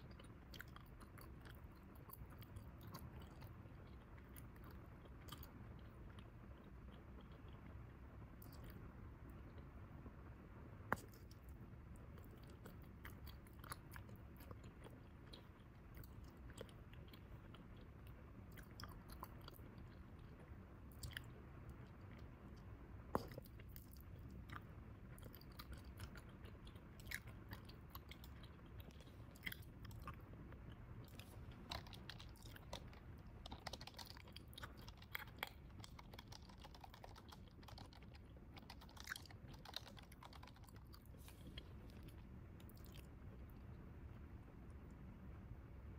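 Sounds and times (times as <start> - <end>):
gum chewing smacks: 0.0 - 9.7, 10.8 - 44.2.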